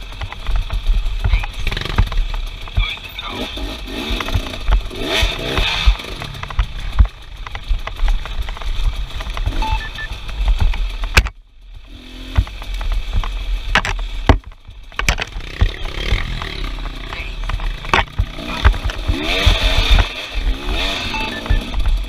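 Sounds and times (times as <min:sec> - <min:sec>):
knocks and clatter: 0:00.0 - 0:22.0
motorcycle engines revving: 0:00.0 - 0:22.0.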